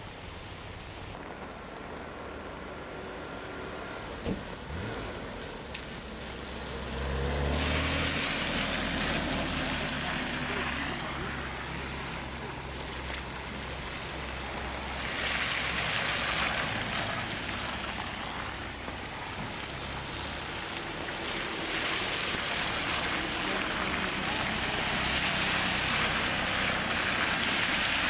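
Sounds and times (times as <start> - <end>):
car engine hum: 0.0 - 28.0
tyres hissing through water: 0.0 - 28.0.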